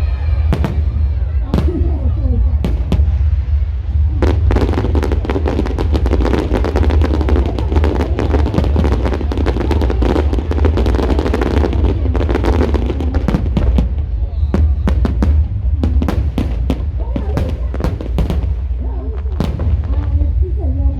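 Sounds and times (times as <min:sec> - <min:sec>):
firecrackers crackling: 0:00.0 - 0:20.9
low rumble: 0:00.0 - 0:20.9.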